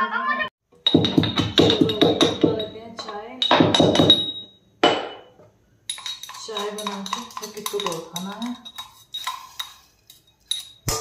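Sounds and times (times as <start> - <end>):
dishes and cutlery clinking: 0.8 - 11.0.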